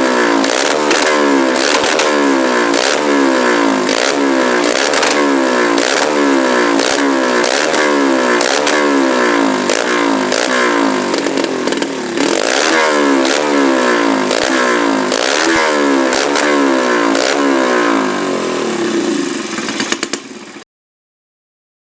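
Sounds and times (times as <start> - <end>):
motorcycle engine revving: 0.0 - 20.6.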